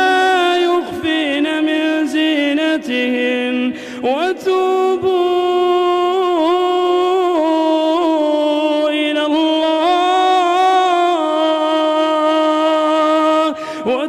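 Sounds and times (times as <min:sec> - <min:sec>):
man reciting in melodic chant: 0:00.0 - 0:14.0.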